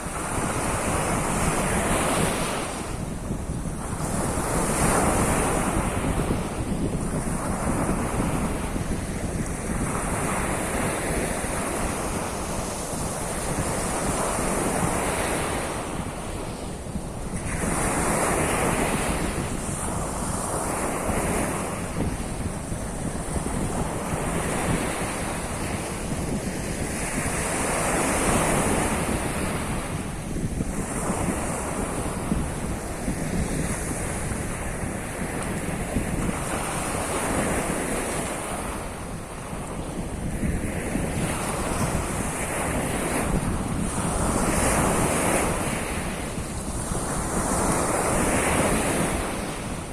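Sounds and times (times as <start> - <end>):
waves washing onto shore: 0.0 - 49.9
wind buffeting microphone: 0.0 - 49.9.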